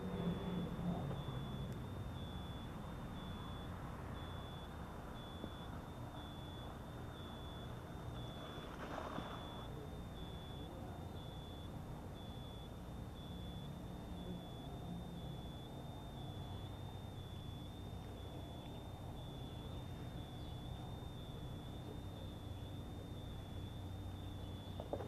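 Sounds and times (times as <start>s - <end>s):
high electronic beep: 0.0s - 25.0s
steady low hum: 0.0s - 25.0s.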